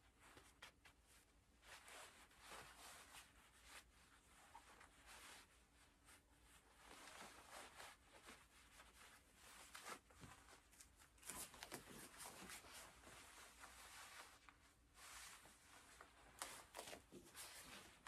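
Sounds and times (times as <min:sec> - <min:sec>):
cloth uniform rustling: 0:00.0 - 0:18.0.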